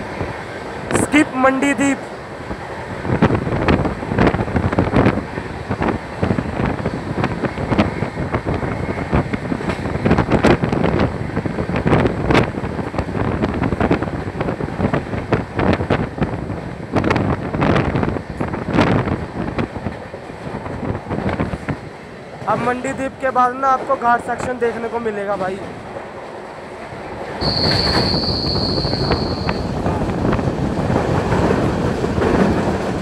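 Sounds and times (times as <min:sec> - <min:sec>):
wind buffeting microphone: 0:02.0 - 0:24.5, 0:25.6 - 0:33.0.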